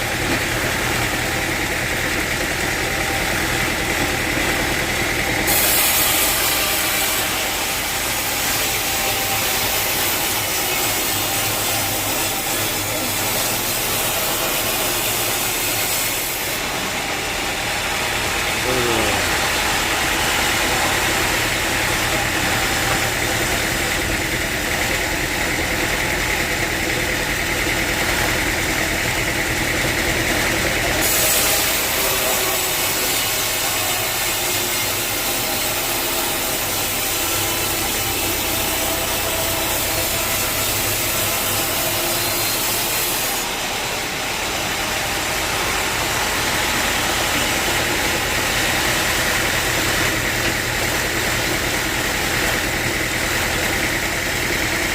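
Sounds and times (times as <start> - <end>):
machinery engine running: 0.0 - 5.5, 7.4 - 31.0, 35.1 - 42.7, 43.4 - 54.9.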